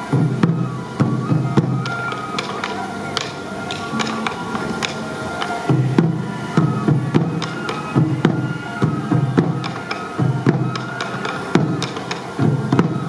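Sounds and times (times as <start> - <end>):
flute playing held notes: 0.0 - 13.0
taiko drums beating: 0.0 - 13.0.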